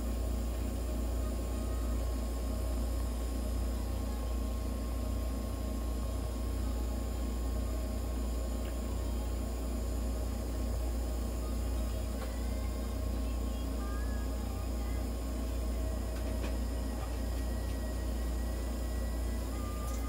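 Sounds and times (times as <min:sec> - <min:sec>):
nebulizer hum and hiss: 0:00.0 - 0:20.0.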